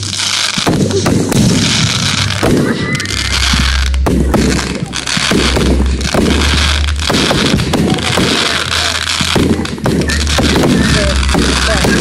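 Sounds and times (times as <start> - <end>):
fireworks bangs and crackles: 0.0 - 12.0
low rumble: 0.0 - 12.0.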